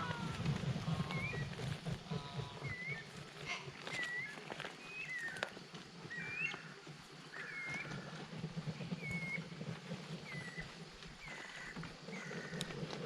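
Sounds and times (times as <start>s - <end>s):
birds whistled calls: 0.0s - 12.8s.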